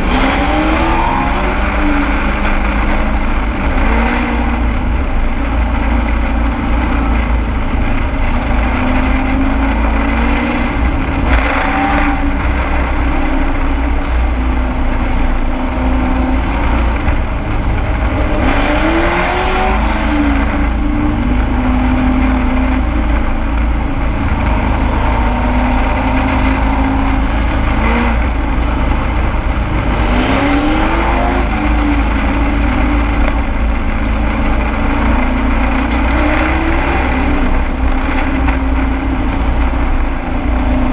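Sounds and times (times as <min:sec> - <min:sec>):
race truck engine revving: 0:00.0 - 0:40.9.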